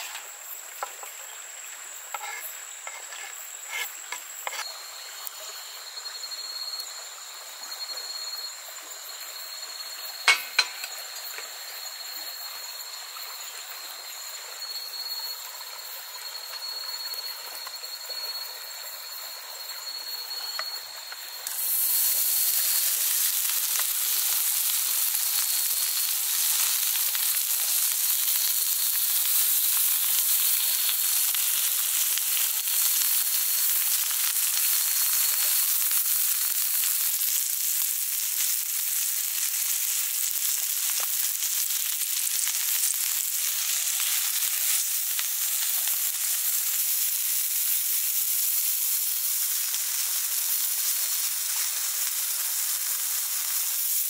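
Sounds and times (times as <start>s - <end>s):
meat sizzling on griddle: 0.0s - 54.0s.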